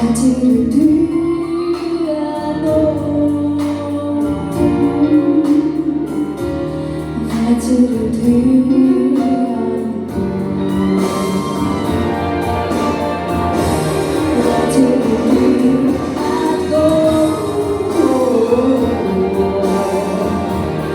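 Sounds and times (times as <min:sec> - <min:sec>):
person singing: 0:00.0 - 0:20.9
slow music with held notes: 0:00.0 - 0:20.9.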